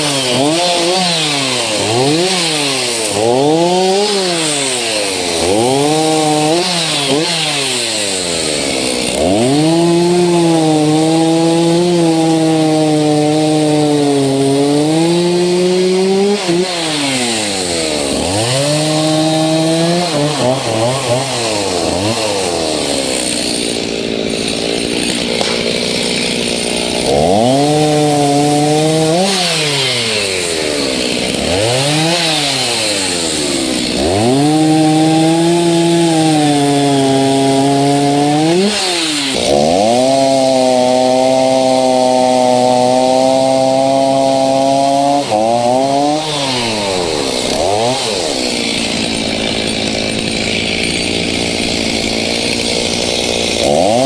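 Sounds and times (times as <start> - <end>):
chainsaw cutting wood: 0.0 - 54.0
chainsaw idling: 0.0 - 54.0.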